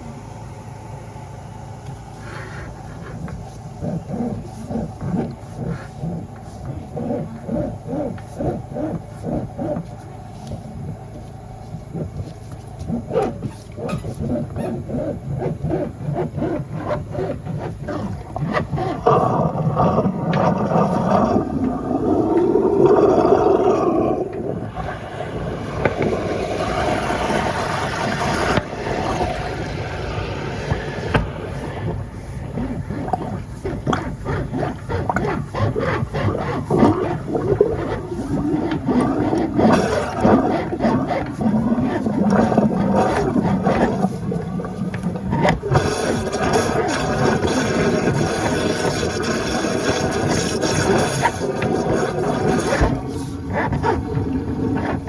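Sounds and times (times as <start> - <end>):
low gurgling tone: 0.0 - 55.0
water gurgling through drain pipe: 0.0 - 55.0.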